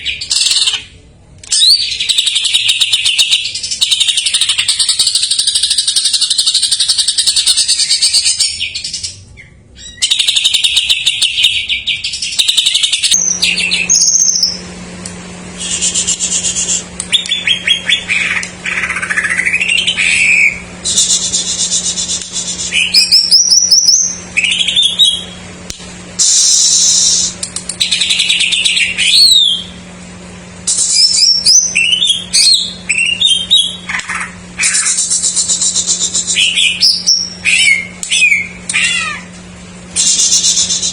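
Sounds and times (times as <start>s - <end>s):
bird singing trills and whistles: 1.5s - 14.6s, 15.6s - 25.4s, 26.2s - 29.8s, 30.7s - 39.0s, 40.0s - 40.9s.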